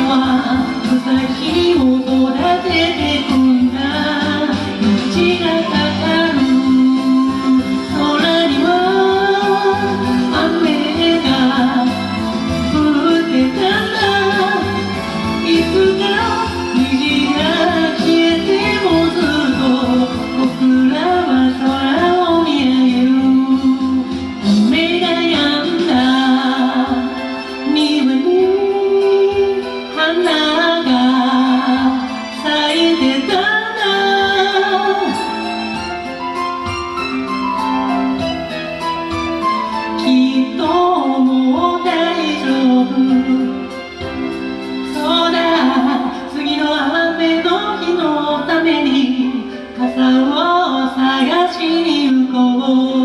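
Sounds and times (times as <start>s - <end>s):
person singing ballad: 0.0s - 53.0s
piano accompaniment: 0.0s - 53.0s
pop backing track: 0.0s - 53.0s.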